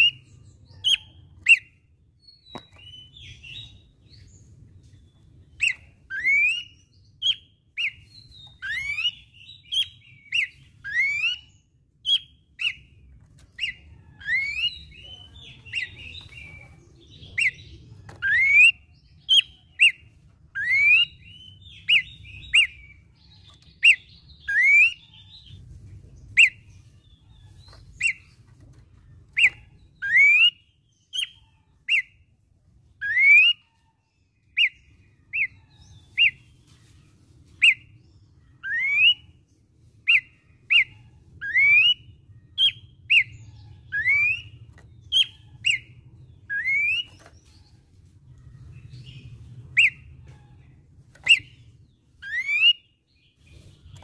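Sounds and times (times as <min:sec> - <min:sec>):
bird singing whistled notes: 0:00.0 - 0:12.9, 0:13.5 - 0:25.6, 0:26.3 - 0:28.4, 0:29.3 - 0:32.2, 0:33.0 - 0:33.8, 0:34.4 - 0:36.5, 0:37.6 - 0:38.0, 0:38.6 - 0:39.4, 0:40.0 - 0:47.7, 0:48.6 - 0:50.1, 0:51.2 - 0:54.0.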